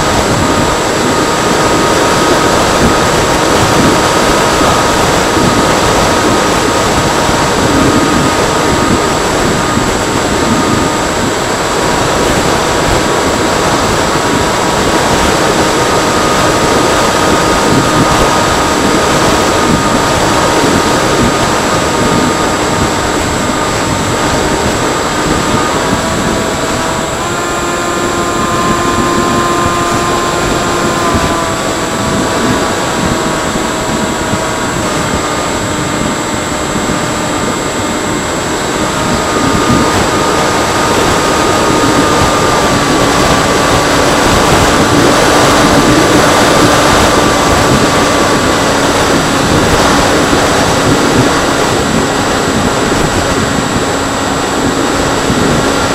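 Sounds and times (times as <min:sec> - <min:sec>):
model airplane motor whining: 0:00.0 - 0:55.9
wind rush: 0:00.0 - 0:55.9.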